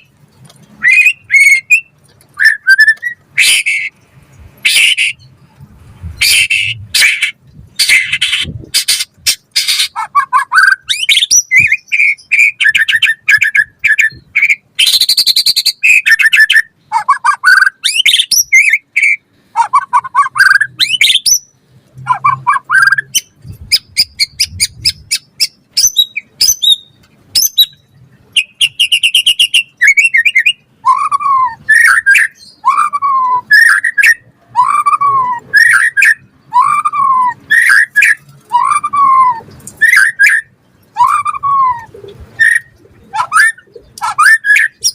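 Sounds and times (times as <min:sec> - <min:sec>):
songbird singing whistled phrases: 0:00.8 - 0:04.0, 0:06.2 - 0:44.9.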